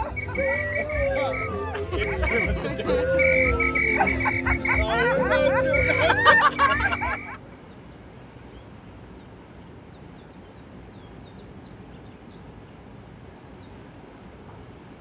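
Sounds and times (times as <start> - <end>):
small birds chirping: 0.0 - 14.4.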